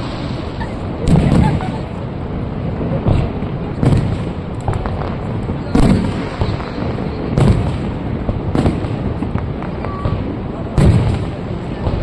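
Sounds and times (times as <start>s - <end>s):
fireworks booming: 0.0s - 12.0s
fireworks crackling: 0.0s - 12.0s
rushing background noise: 0.0s - 12.0s.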